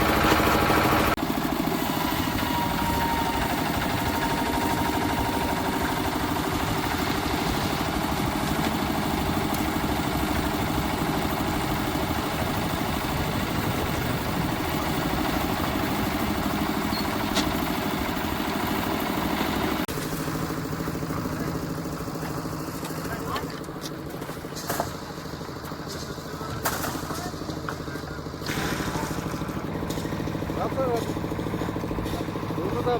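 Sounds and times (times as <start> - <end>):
concrete mixer engine running: 0.0 - 32.9.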